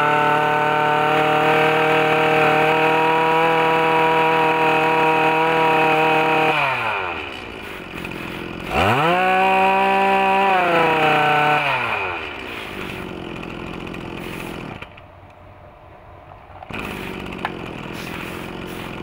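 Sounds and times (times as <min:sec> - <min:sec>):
brush cutter engine revving: 0:00.0 - 0:15.3, 0:16.6 - 0:19.0.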